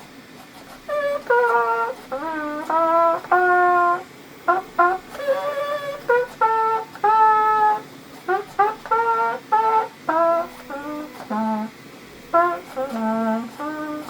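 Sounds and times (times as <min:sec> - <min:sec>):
trumpet playing a melody: 0:00.0 - 0:14.0.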